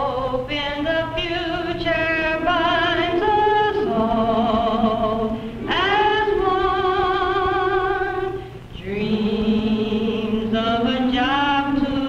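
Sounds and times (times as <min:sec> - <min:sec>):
choir singing held notes: 0:00.0 - 0:12.0.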